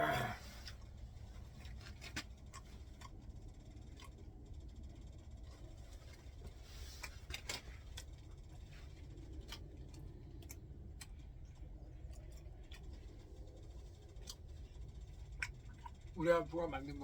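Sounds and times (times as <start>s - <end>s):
low steady rumble: 0.0s - 17.0s
light eating clicks and taps: 0.5s - 17.0s.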